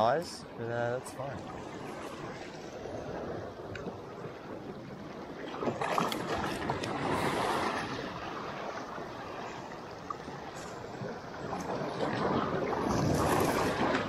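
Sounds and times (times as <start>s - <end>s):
small waves lapping on rocks: 0.0s - 14.0s
wind buffeting microphone: 0.0s - 14.0s.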